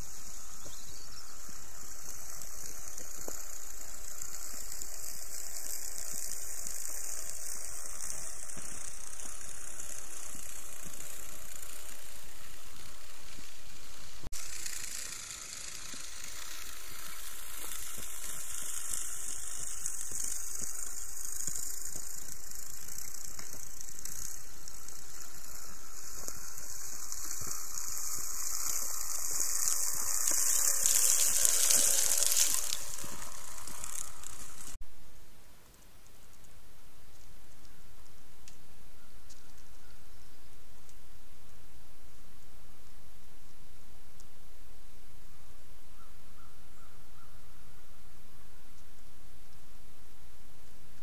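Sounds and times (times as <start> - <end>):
steady high hiss: 0.0 - 51.0.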